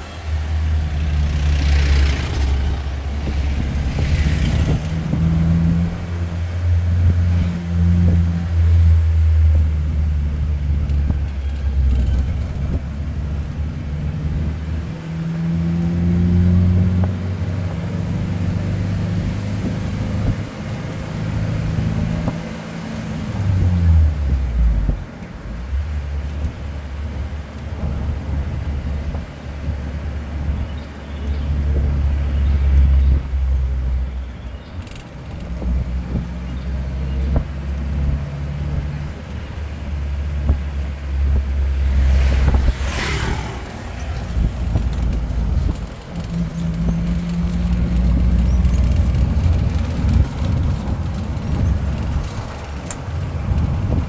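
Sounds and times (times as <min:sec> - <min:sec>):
car engine hum: 0:00.0 - 0:54.0
road noise: 0:00.0 - 0:54.0.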